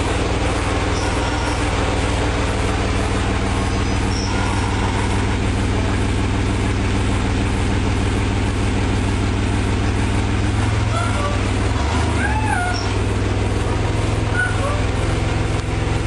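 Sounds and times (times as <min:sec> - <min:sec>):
van engine idling: 0:00.0 - 0:16.0.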